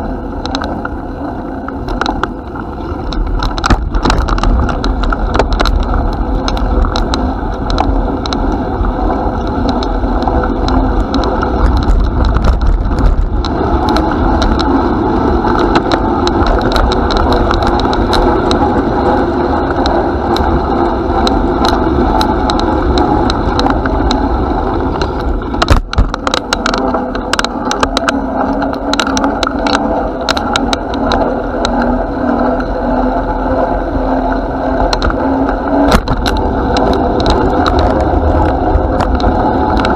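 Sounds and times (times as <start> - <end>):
bicycle clicks and rattles: 0.0 - 39.9
bicycle rolling rumble: 0.0 - 39.9
wind buffeting: 0.0 - 39.9.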